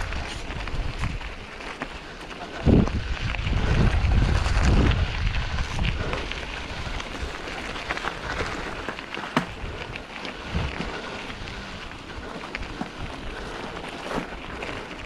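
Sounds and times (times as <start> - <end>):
wind on microphone: 0.0 - 1.5, 2.5 - 15.0
bike tyres on stony trail: 0.0 - 15.0.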